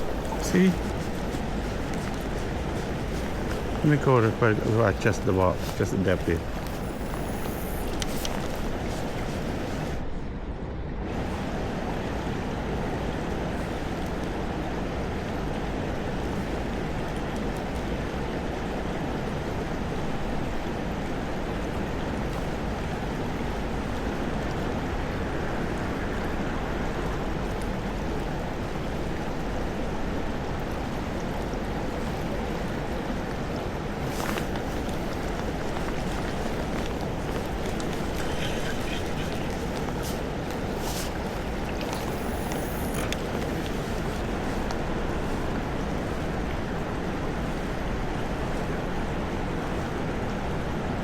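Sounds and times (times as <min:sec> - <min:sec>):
river water rushing: 0:00.0 - 0:10.0, 0:11.0 - 0:51.0.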